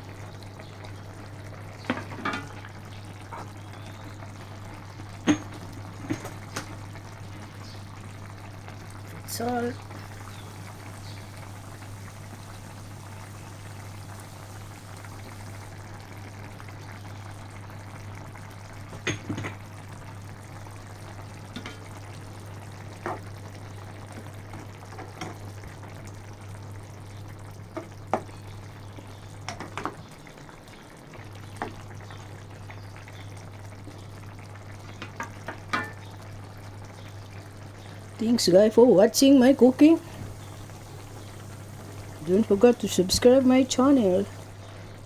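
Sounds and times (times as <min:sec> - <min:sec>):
food simmering and bubbling in pot: 0:00.0 - 0:45.0.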